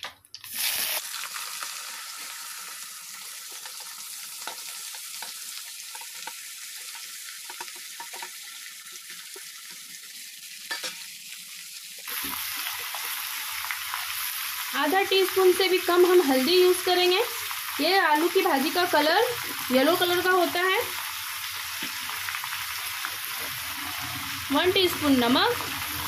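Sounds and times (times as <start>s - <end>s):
potatoes sizzling in hot oil: 0.4s - 26.0s.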